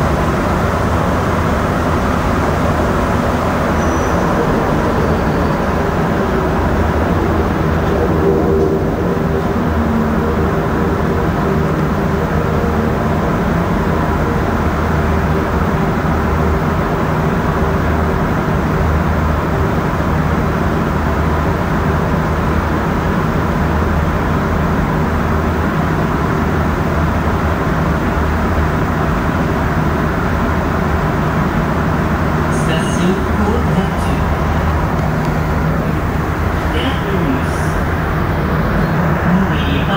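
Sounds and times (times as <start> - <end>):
train rolling rumble in tunnel: 0.0 - 39.9
ventilation fans humming: 0.0 - 39.9.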